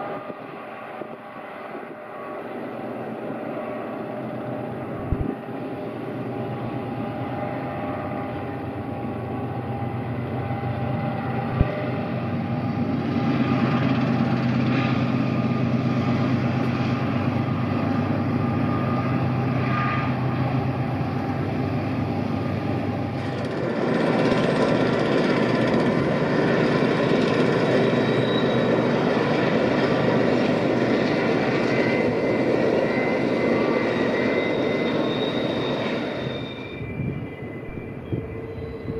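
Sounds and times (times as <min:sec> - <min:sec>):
diesel locomotive engine drone: 0:00.0 - 0:38.9
train rumble: 0:00.0 - 0:38.9.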